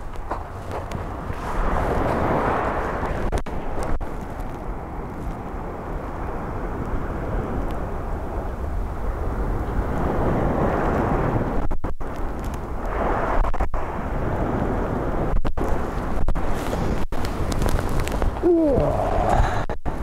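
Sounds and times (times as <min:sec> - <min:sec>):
waves breaking on shingle beach: 0:00.0 - 0:08.4, 0:12.2 - 0:20.0
wind rumbling on microphone: 0:00.0 - 0:20.0.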